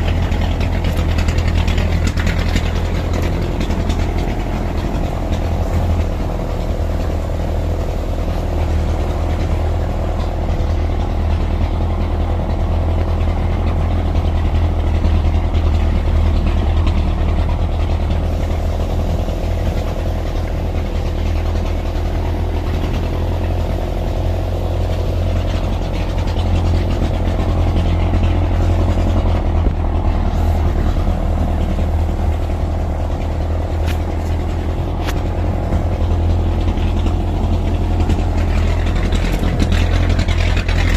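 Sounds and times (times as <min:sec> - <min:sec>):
vehicle engine droning at low revs: 0:00.0 - 0:40.9.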